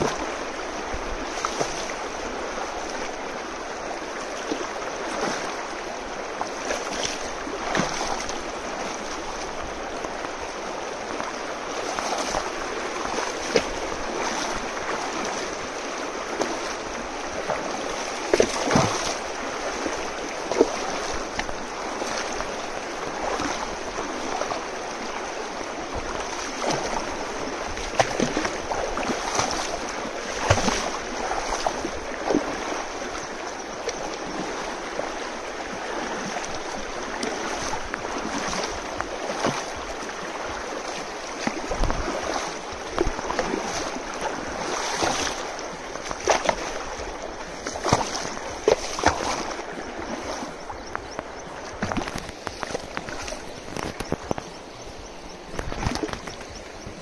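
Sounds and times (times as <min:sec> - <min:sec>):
river water rushing and splashing: 0:00.0 - 0:57.0.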